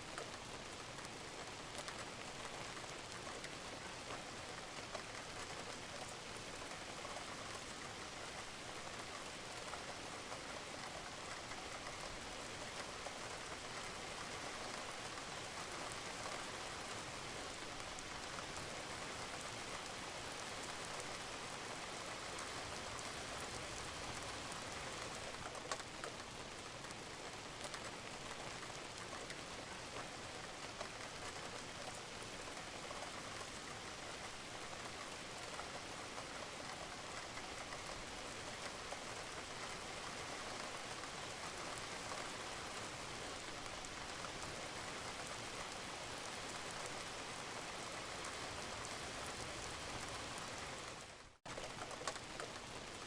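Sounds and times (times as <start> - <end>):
rain falling on a roof: 0.0 - 53.0.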